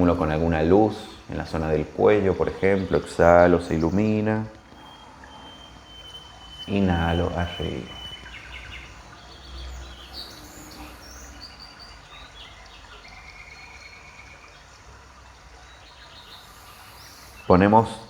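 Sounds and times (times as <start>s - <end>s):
faint bird chirps: 0.0s - 18.0s
steady low hum: 0.0s - 18.0s.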